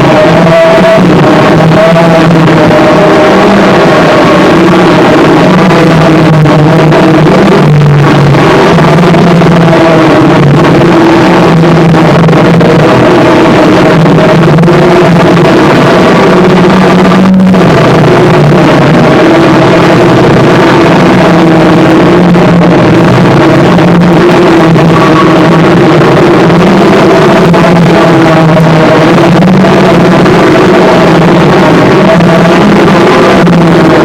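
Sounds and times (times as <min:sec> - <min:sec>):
harsh noise music: 0:00.0 - 0:34.0
low drone: 0:00.0 - 0:34.0.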